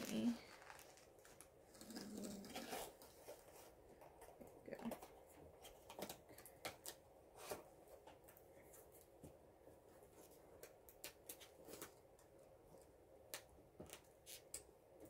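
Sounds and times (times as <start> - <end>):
faint rustling of packaging: 0.0 - 15.0.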